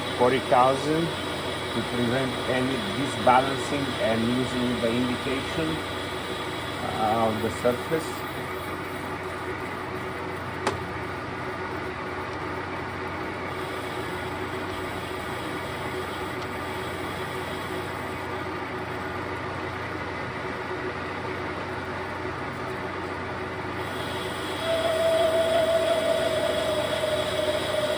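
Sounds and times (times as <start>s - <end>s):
lathe running: 0.0s - 27.9s.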